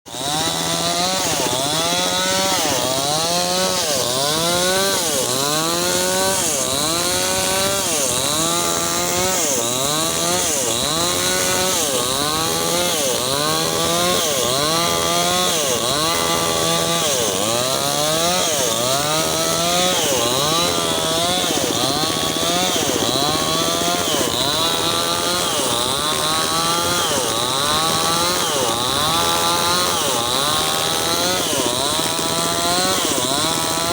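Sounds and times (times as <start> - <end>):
mini chainsaw cutting wood: 0.0 - 33.9.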